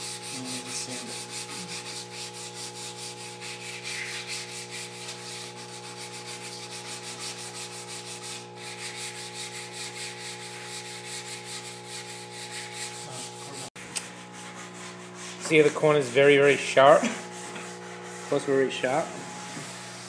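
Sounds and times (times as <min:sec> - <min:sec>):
sandpaper scratching on wood: 0:00.0 - 0:20.0
steady hum: 0:00.0 - 0:20.0.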